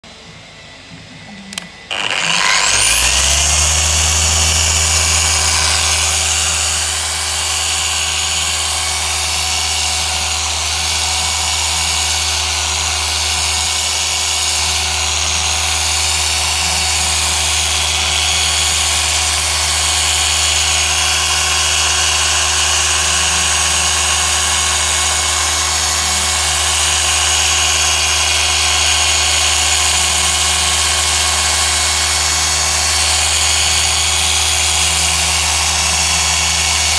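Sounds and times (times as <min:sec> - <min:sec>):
machine polisher motor whining: 0:00.0 - 0:36.9.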